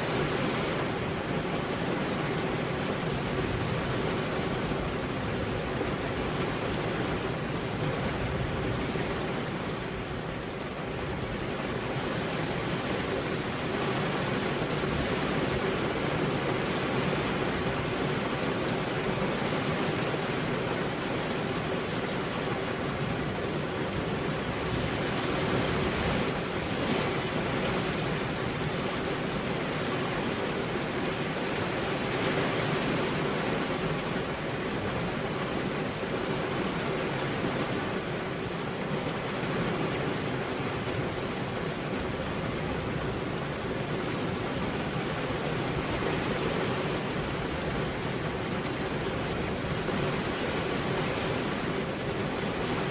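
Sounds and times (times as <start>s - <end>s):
heavy rain on a road: 0.0s - 52.9s.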